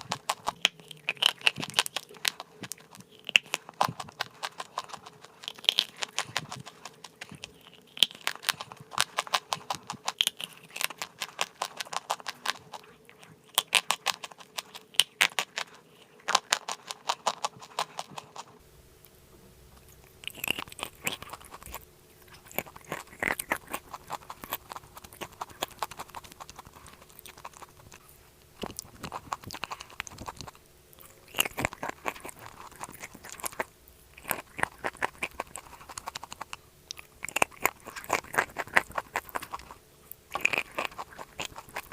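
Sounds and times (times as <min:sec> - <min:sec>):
biting and chewing crunchy clay: 0:00.0 - 0:18.6, 0:19.8 - 0:41.9.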